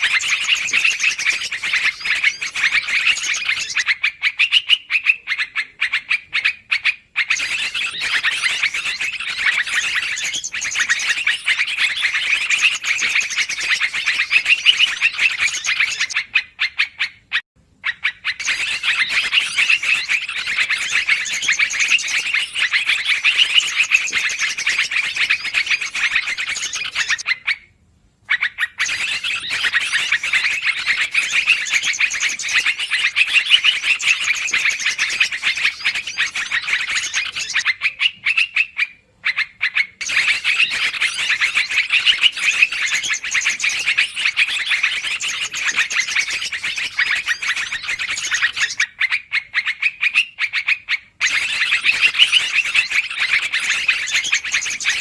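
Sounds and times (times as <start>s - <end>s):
birds chattering: 0.0s - 55.0s.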